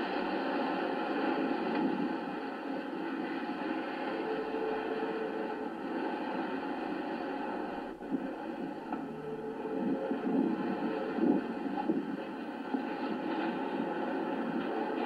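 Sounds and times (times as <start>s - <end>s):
sea noise: 0.0s - 15.0s.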